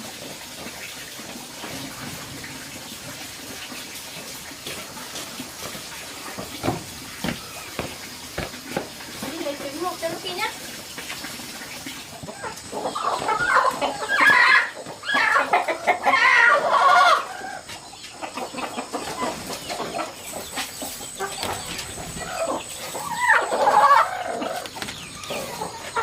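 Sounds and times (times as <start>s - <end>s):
chickens clucking: 0.1s - 26.0s.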